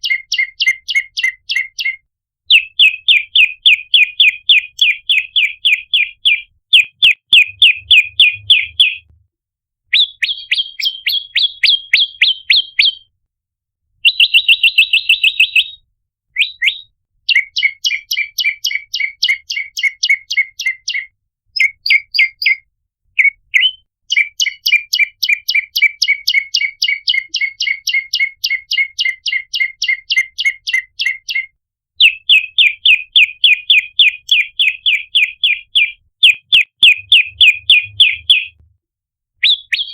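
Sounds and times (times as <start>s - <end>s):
bird chirping fast: 0.0s - 9.1s, 9.9s - 13.1s, 14.0s - 15.8s, 16.4s - 38.6s, 39.4s - 39.9s.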